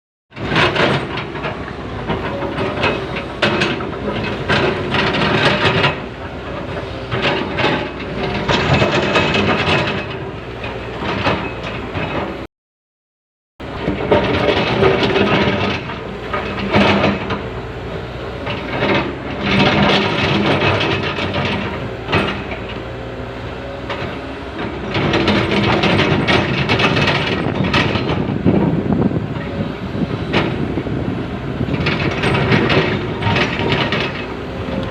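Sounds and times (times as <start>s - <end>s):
excavator diesel engine: 0.3s - 12.5s, 13.6s - 34.9s.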